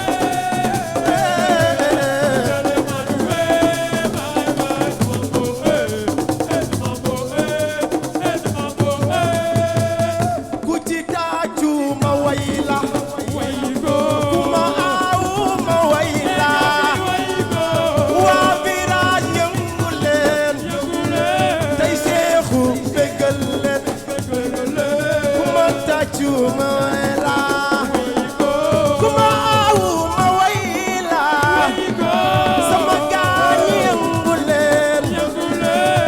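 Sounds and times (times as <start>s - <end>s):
fast percussion: 0.0s - 36.0s
person singing: 0.0s - 36.0s
shaker: 0.0s - 36.0s.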